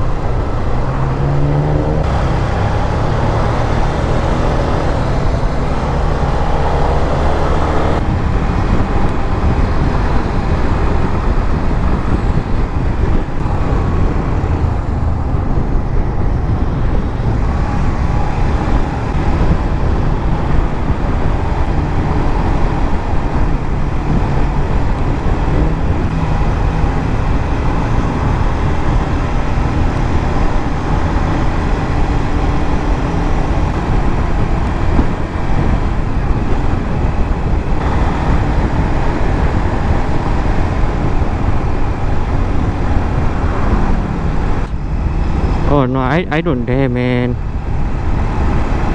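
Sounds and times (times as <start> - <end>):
motorcycle engine running: 0.0 - 45.7
motorcycle riding noise: 0.0 - 48.9.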